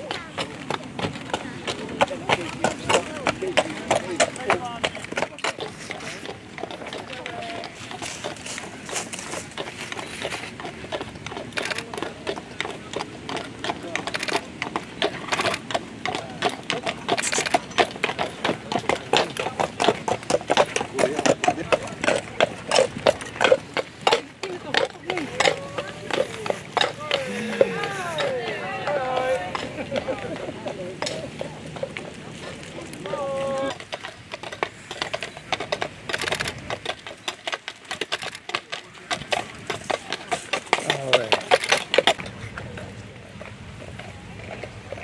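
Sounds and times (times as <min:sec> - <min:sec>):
horse hooves clopping: 0:00.0 - 0:45.0.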